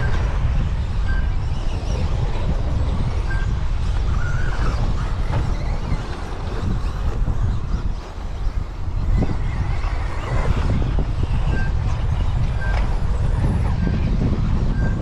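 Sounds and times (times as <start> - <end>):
radio-controlled trucks racing: 0.0 - 15.0
wind buffeting microphone: 0.0 - 15.0.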